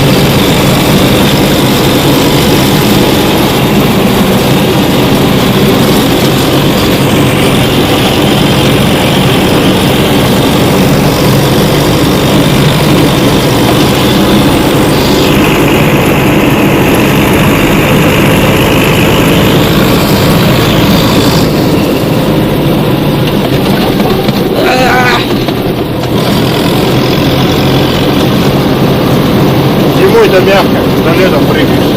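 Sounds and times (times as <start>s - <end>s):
small tractor engine running: 0.0s - 31.9s.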